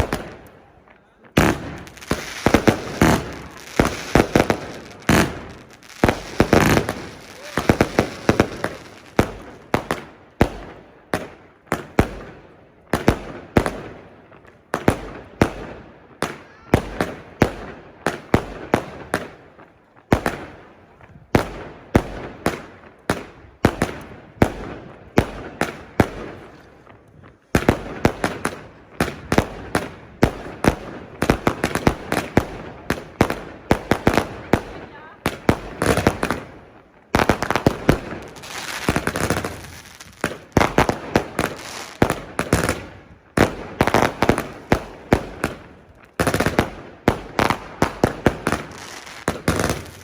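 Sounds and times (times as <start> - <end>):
fireworks banging: 0.0 - 19.4, 20.1 - 50.0.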